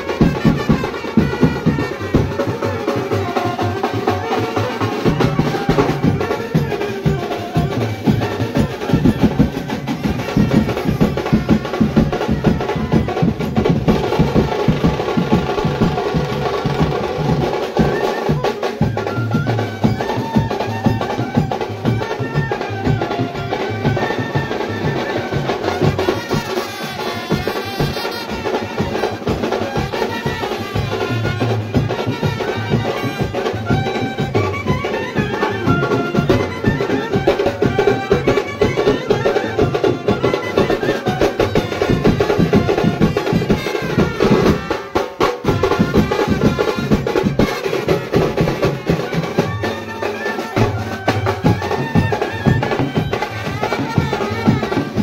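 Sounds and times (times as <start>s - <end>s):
brass band melody: 0.0s - 55.0s
driving drum beat: 0.0s - 55.0s.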